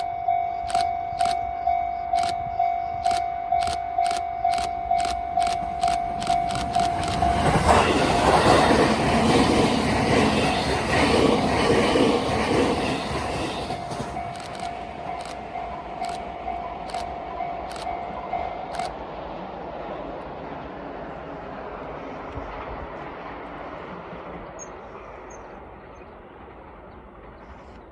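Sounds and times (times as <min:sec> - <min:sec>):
train wheels rushing on rails: 0:00.0 - 0:27.9.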